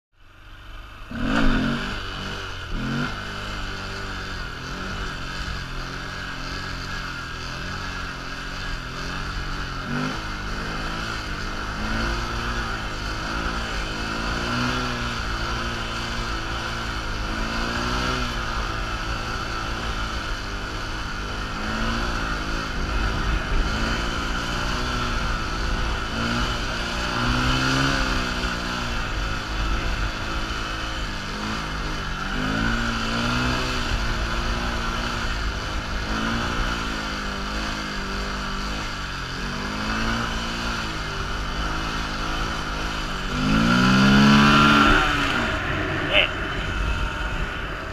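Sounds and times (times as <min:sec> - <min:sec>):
motorcycle engine revving: 0:00.2 - 0:47.9
wind rumble: 0:01.0 - 0:47.9.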